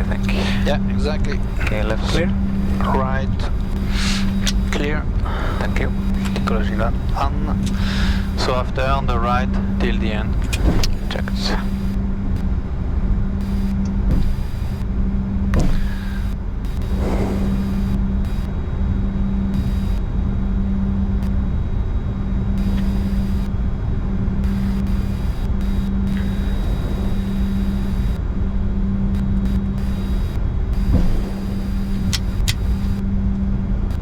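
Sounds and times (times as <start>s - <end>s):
aircraft rolling rumble: 0.0s - 19.5s, 20.3s - 34.0s
jet engines idling: 0.0s - 34.0s.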